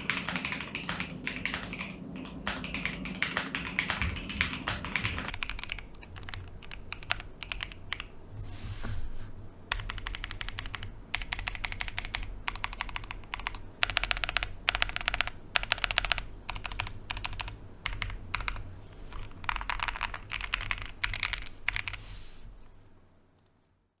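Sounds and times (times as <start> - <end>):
mechanical keyboard typing: 0.0 - 8.1, 9.7 - 22.0.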